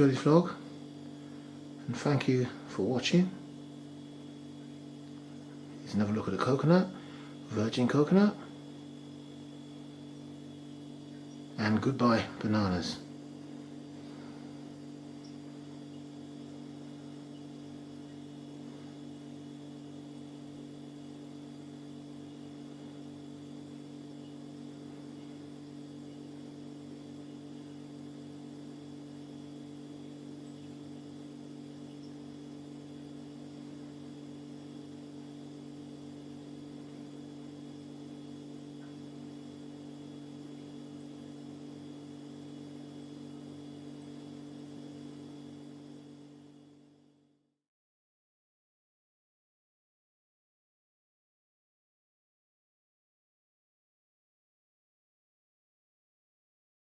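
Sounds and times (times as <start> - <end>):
electrical hum: 0.0 - 47.4.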